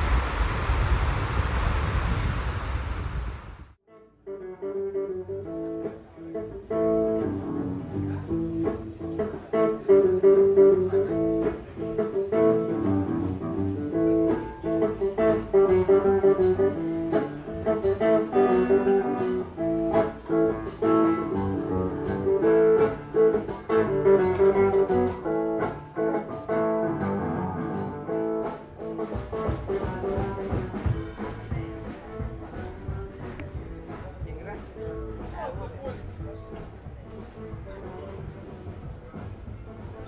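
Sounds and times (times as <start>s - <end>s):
plucked guitar music: 3.9s - 38.2s.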